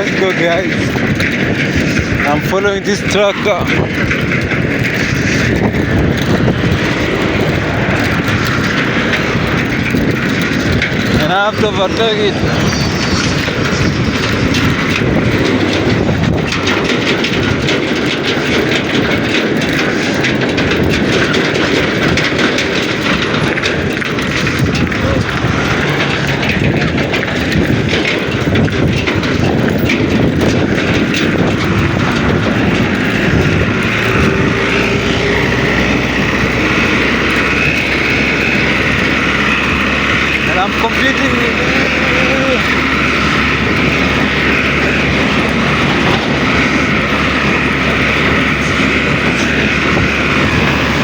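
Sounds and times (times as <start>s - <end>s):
tractor engine running: 0.0s - 51.0s
wind rushing over microphone: 0.0s - 51.0s.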